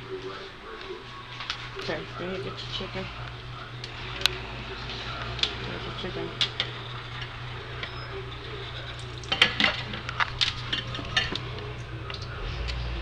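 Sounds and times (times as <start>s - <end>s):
dishes and utensils clattering: 0.0s - 12.8s
steady low hum: 0.0s - 13.0s.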